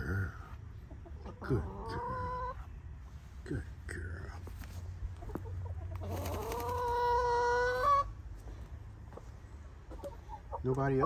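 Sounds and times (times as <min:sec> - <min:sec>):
hens calling: 0:00.0 - 0:11.0.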